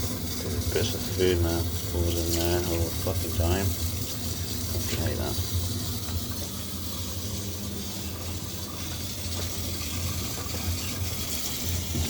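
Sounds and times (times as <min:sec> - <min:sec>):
water hissing from tap: 0:00.0 - 0:12.0.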